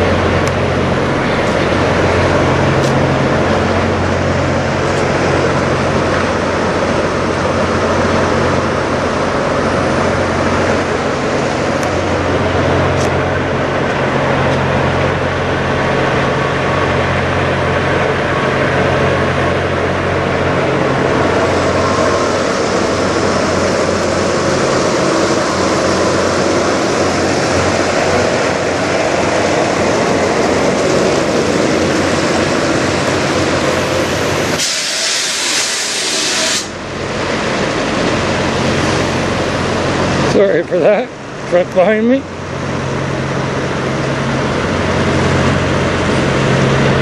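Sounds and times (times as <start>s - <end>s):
diesel truck engines idling: 0.0s - 35.5s, 36.7s - 47.0s.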